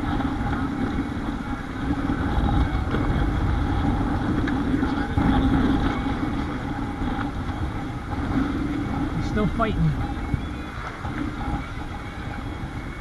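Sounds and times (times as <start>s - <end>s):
continuous low hum: 0.0s - 13.0s
waves rushing along hull: 0.0s - 13.0s
wind buffeting microphone: 0.0s - 13.0s.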